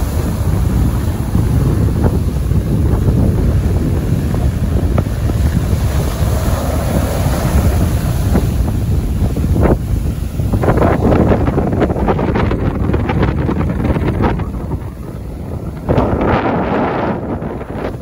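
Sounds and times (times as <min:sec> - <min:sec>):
sea waves breaking on beach: 0:00.0 - 0:18.0
wind buffeting microphone: 0:00.0 - 0:18.0.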